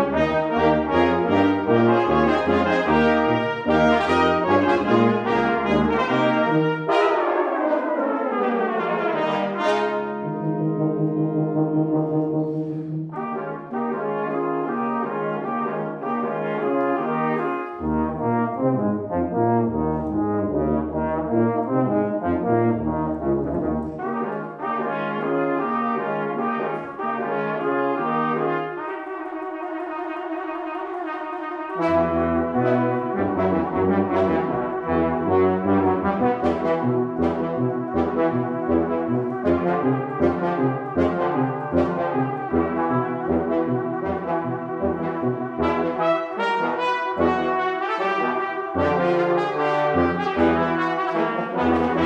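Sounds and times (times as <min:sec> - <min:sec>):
brass quintet playing: 0:00.0 - 0:52.0
pulsing tuba line: 0:00.0 - 0:52.0.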